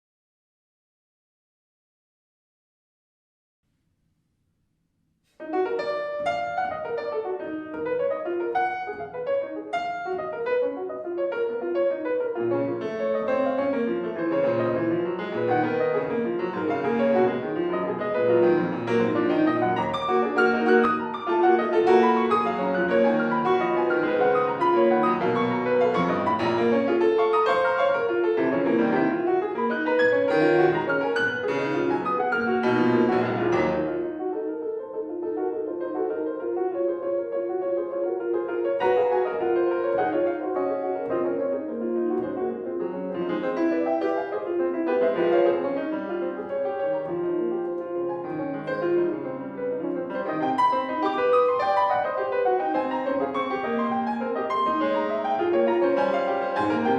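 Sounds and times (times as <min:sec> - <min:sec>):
solo classical piano: 0:05.2 - 0:56.9.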